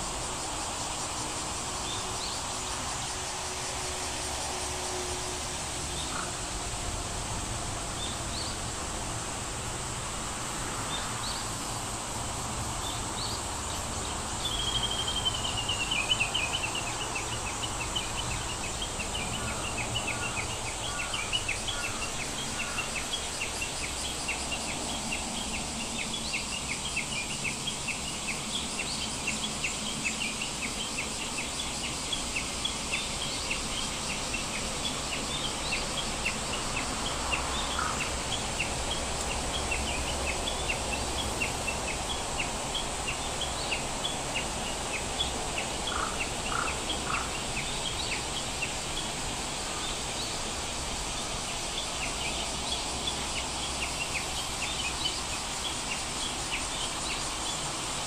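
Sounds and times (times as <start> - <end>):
background hiss: 0.0 - 58.0.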